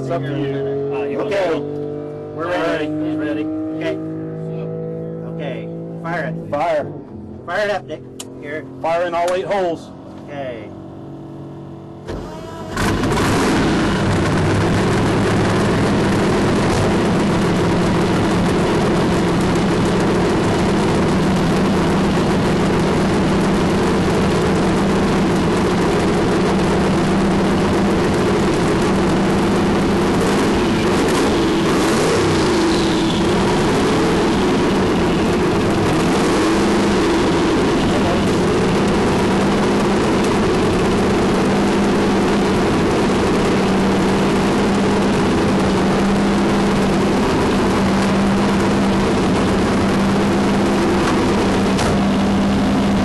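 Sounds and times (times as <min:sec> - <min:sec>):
car engine idling: 0:04.3 - 0:53.0.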